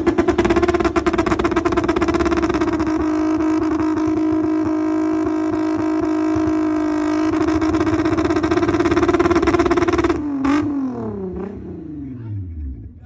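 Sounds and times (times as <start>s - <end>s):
exhaust pop: 0.0s - 11.5s
engine revving on limiter: 0.0s - 12.9s.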